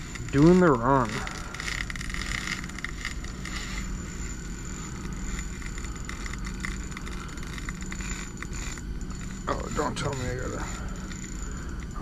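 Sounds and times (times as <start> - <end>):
fishing reel drag clicking: 0.0 - 12.0
steady low hum: 0.0 - 12.0.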